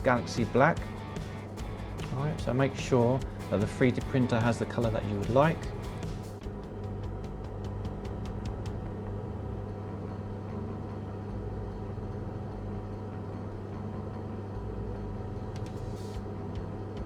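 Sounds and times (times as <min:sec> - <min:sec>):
fans humming: 0:00.0 - 0:17.0.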